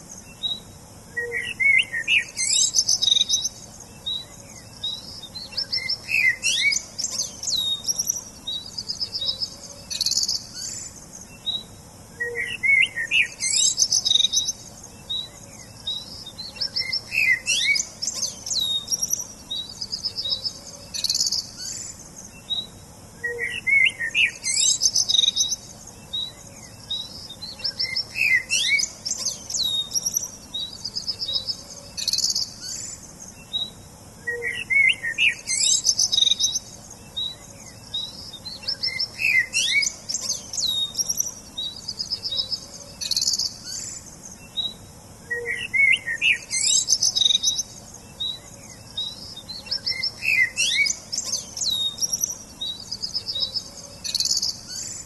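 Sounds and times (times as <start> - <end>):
songbirds chirping and singing: 0.0 - 55.0.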